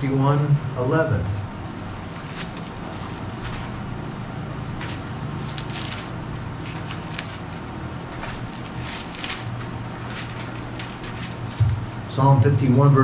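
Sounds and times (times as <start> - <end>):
steady low hum: 0.0 - 13.0
book pages rustling and flipping: 1.6 - 12.0.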